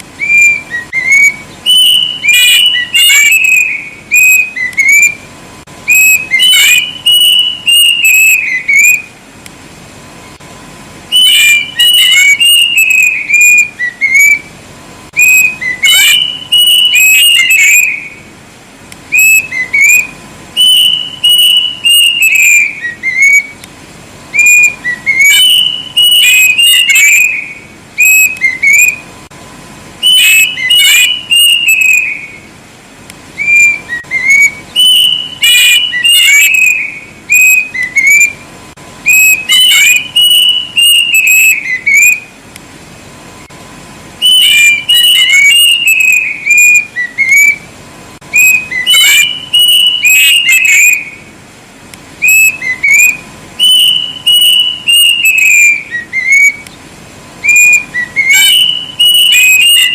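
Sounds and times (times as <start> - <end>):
cuckoo singing whistled notes: 0.1 - 9.2, 11.1 - 18.3, 19.1 - 23.6, 24.3 - 29.1, 30.0 - 32.5, 33.3 - 42.4, 44.2 - 47.7, 48.3 - 51.3, 52.2 - 56.8, 57.4 - 59.9.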